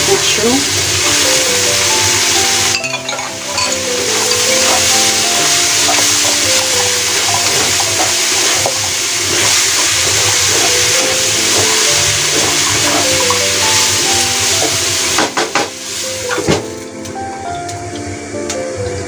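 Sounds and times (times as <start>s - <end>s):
food sizzling in a wok: 0.0s - 17.0s
background music melody: 0.0s - 19.0s.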